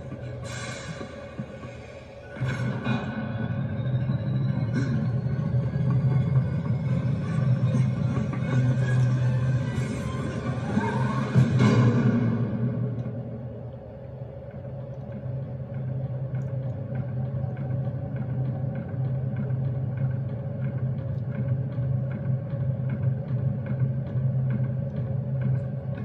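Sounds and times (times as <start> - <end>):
low electric hum: 0.0 - 26.0.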